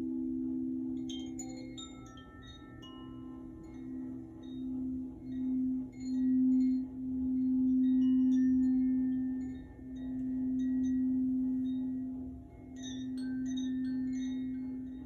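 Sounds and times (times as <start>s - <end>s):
crystal singing bowl: 0.0s - 15.0s.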